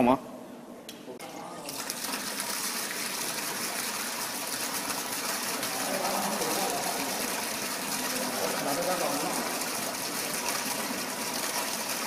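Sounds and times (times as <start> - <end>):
water rushing and splashing in machine: 1.6 - 12.0.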